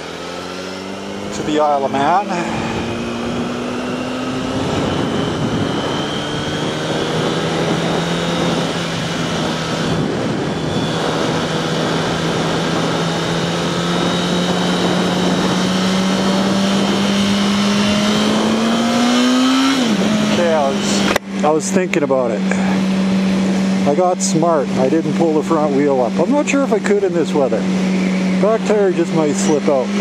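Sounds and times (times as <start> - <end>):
motorcycle engine revving: 0.0 - 30.0
wind and road noise: 0.0 - 30.0.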